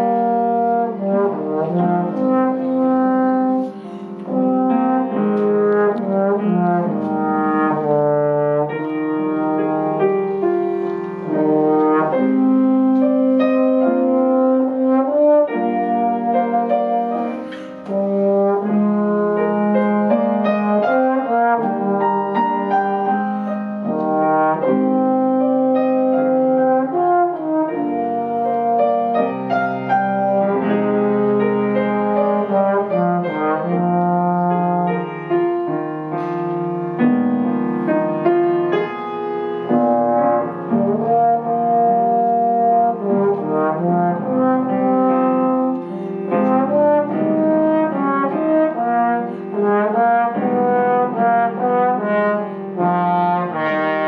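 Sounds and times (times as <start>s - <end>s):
trombone solo melody: 0.0s - 10.5s, 11.2s - 36.3s, 37.3s - 54.0s
piano accompaniment: 0.0s - 54.0s.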